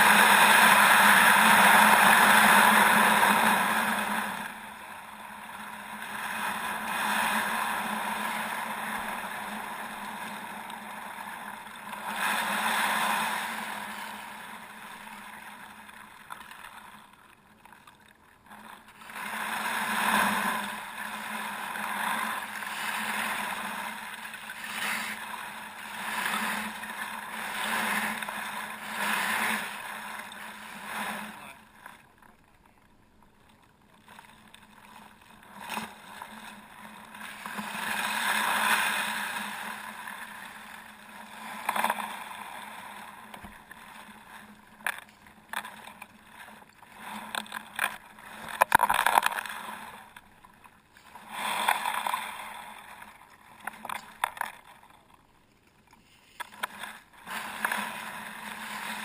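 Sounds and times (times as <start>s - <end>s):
paddle strokes splashing: 0.0s - 59.0s.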